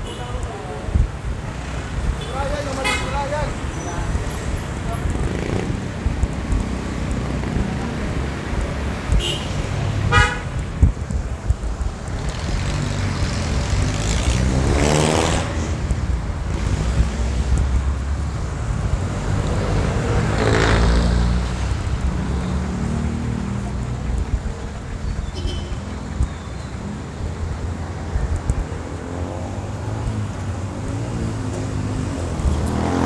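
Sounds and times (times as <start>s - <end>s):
street traffic rumbling: 0.0s - 33.0s
vehicles passing close by: 0.0s - 33.0s.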